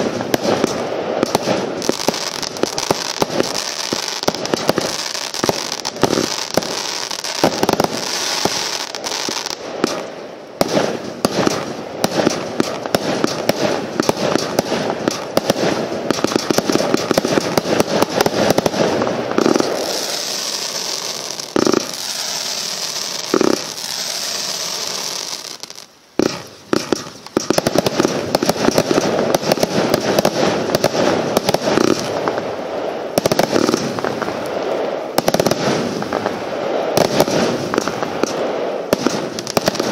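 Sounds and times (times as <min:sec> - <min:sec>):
firework barrage: 0:00.0 - 0:39.9.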